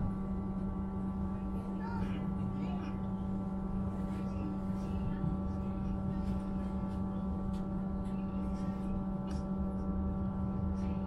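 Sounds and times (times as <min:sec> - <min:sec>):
electric train hum and whine: 0:00.0 - 0:11.0.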